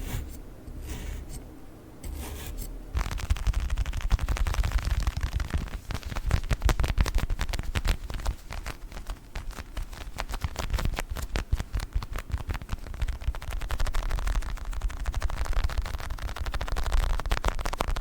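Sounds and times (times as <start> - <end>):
small ball tapping and crackling: 3.0 - 18.0.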